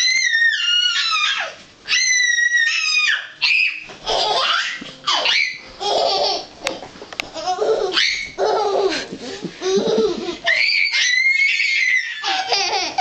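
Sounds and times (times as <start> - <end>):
toddler squealing with laughter: 0.0 - 6.5, 7.4 - 8.9, 9.6 - 13.0.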